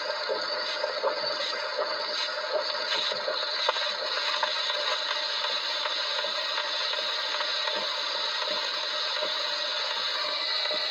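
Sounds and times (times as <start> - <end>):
phonograph rasping hiss: 0.0 - 10.9.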